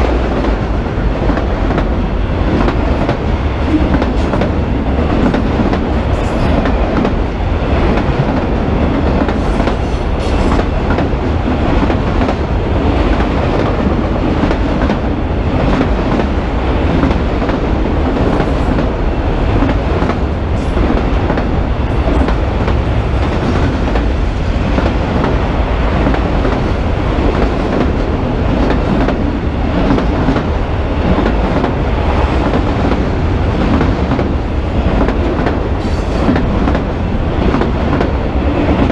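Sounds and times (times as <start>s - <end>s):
train wheel clacks: 0.0s - 12.5s, 13.1s - 38.9s
steel wheels rumbling on rails: 0.0s - 38.9s.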